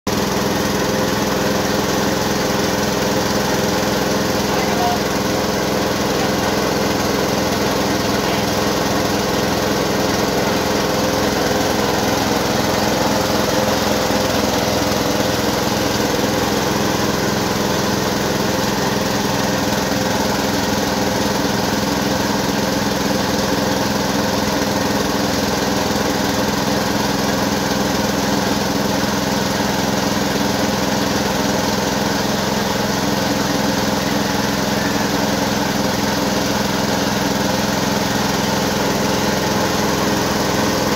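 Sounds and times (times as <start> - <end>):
rice mill mechanical drone: 0.1 - 40.9.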